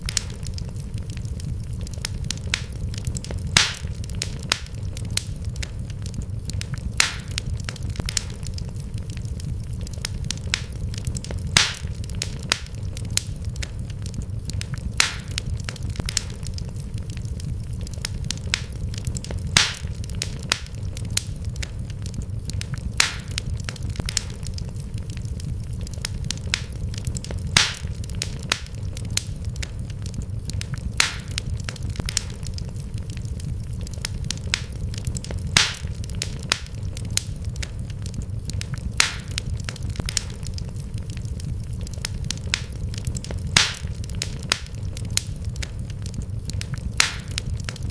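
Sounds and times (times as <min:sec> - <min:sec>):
fire popping: 0:00.0 - 0:47.9
steady low rumble: 0:00.0 - 0:47.9
wood fire crackling: 0:00.0 - 0:47.9.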